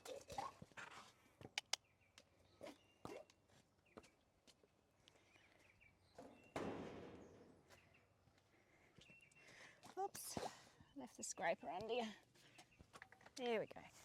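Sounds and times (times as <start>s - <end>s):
birds chirping: 1.5s - 14.0s.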